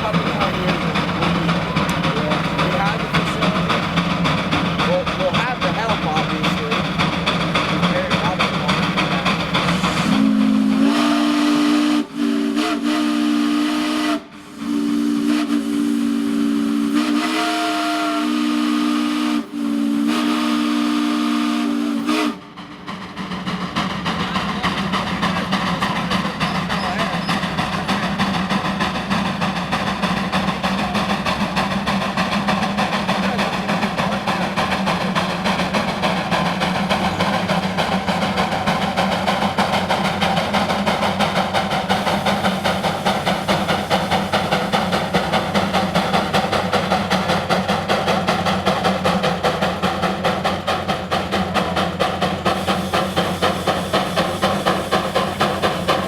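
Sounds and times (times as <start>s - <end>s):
steam engine exhaust chuffing: 0.0s - 56.0s
steam hissing: 0.0s - 56.0s.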